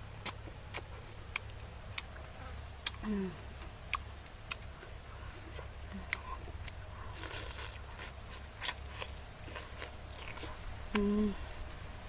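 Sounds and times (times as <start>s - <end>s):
person chewing and biting: 0.2s - 3.0s, 3.9s - 11.1s.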